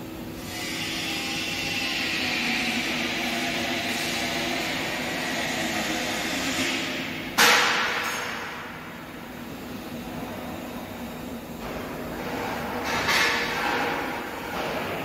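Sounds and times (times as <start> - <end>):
factory machinery hum: 0.0 - 15.0.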